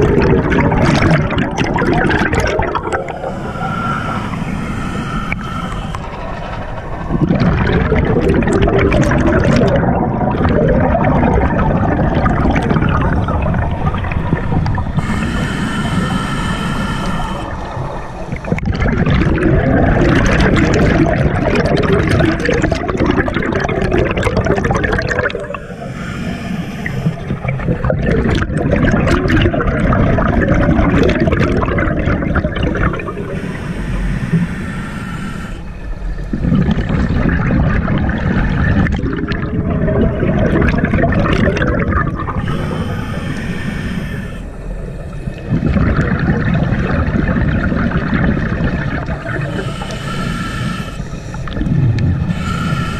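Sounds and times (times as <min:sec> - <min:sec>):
regulator exhaled bubbles rushing: 0:00.0 - 0:16.2, 0:17.5 - 0:34.5, 0:35.5 - 0:43.2, 0:44.9 - 0:50.0, 0:51.4 - 0:52.9.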